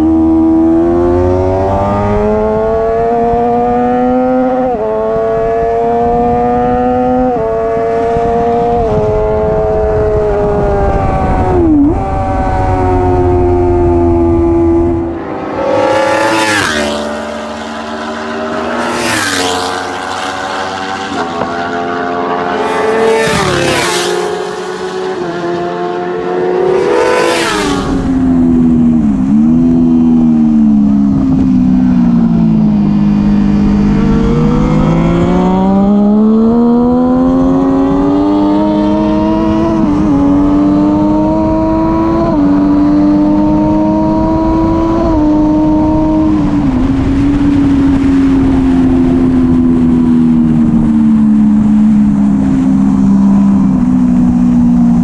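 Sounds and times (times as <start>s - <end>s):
motorcycle engine revving: 0.0s - 55.0s
motorcycles passing loudly: 0.0s - 55.0s
wind and road noise: 0.0s - 55.0s.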